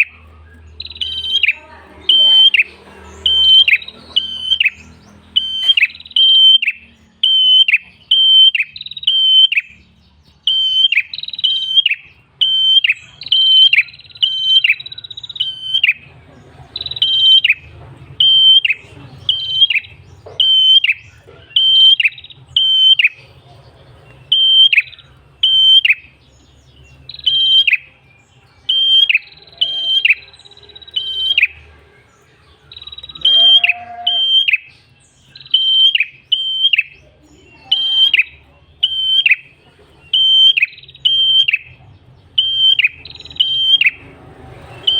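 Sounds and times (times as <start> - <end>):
tailorbird singing sharp high notes: 0.0 - 16.1, 16.8 - 23.2, 24.2 - 26.2, 27.0 - 31.8, 32.7 - 44.0.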